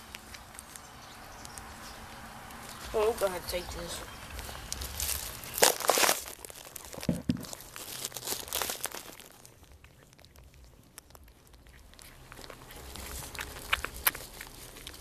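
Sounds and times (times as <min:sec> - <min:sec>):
bedding rustling and crinkling: 0:02.0 - 0:15.0.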